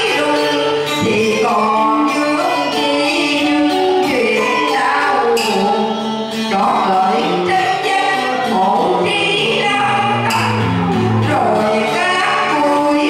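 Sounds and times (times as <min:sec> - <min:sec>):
group singing in harmony: 0:00.0 - 0:13.0.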